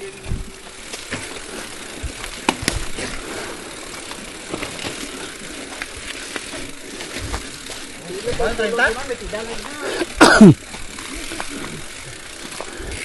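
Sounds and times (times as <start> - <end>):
bicycle parts rattling and clicking: 0.0 - 13.0
steady rushing noise: 0.0 - 13.0.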